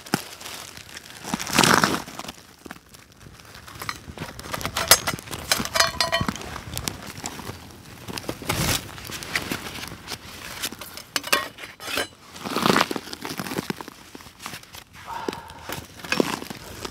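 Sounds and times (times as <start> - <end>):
rustle: 0.0 - 16.9
twigs crackling and snapping: 0.0 - 16.9.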